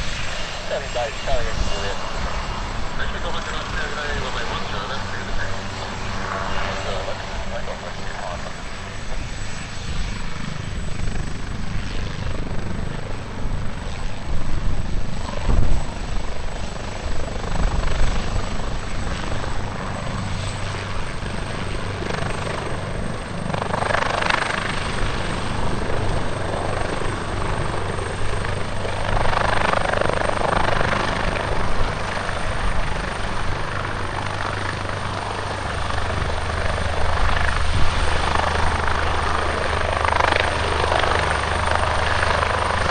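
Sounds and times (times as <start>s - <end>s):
helicopter rotor throbbing: 0.0s - 42.9s.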